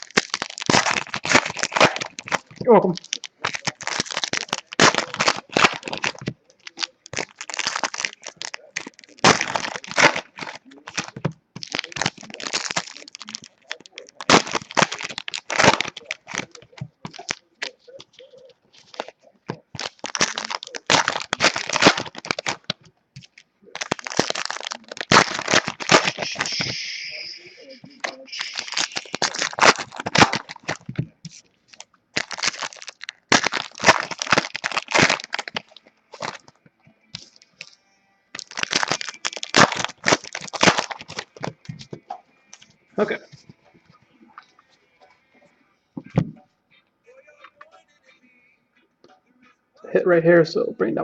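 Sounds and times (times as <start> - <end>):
foil wrappers crinkling: 0.0 - 45.2.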